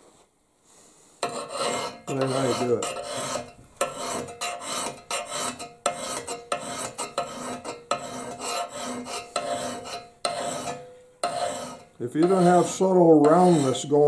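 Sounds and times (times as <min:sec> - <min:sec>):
file rasping on metal: 0:01.2 - 0:14.0.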